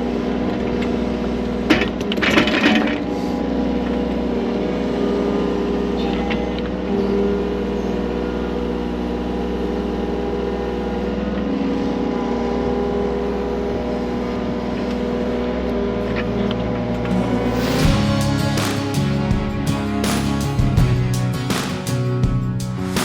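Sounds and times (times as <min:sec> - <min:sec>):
loader engine running: 0:00.0 - 0:23.0.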